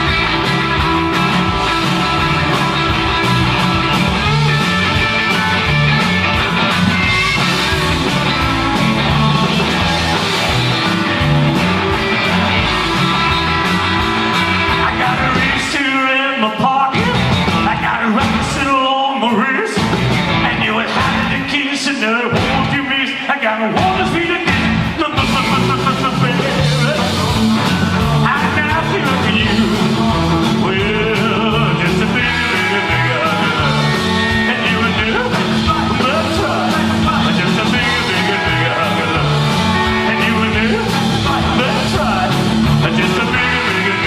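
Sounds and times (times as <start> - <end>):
live rock and roll band: 0.0 - 44.0
person singing: 7.0 - 44.0.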